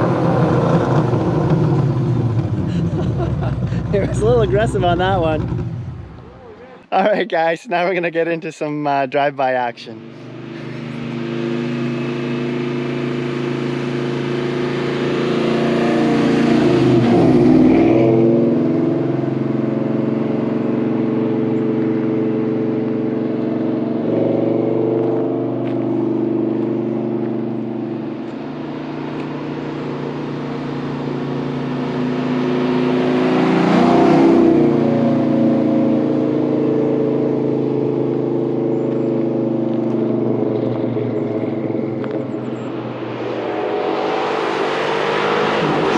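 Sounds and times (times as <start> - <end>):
loud car exhaust driving past: 0.0 - 6.6, 9.9 - 45.9.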